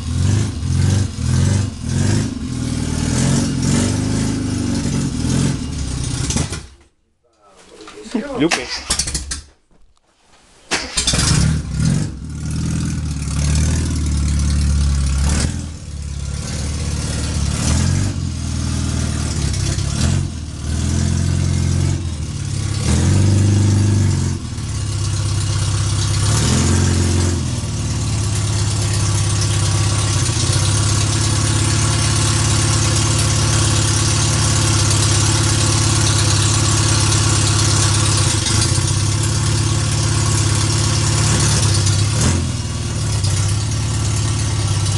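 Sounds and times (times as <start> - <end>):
car engine revving and idling: 0.0 - 6.8, 10.8 - 44.9.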